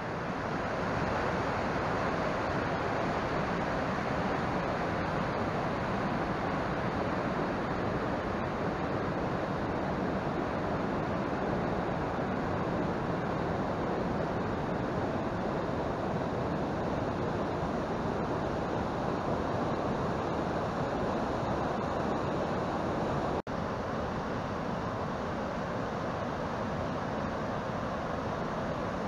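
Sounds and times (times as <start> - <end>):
fast mountain stream rushing: 0.0 - 29.0.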